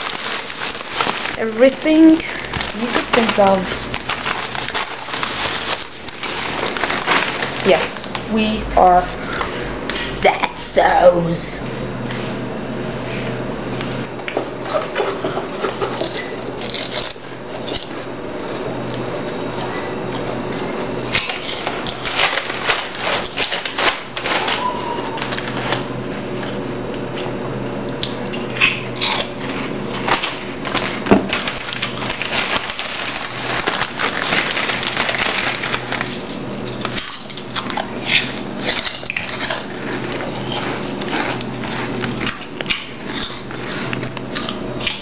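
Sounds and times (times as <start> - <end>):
crunchy snacks being chewed: 0.0 - 8.7, 14.7 - 45.0
steady low hum: 0.0 - 45.0.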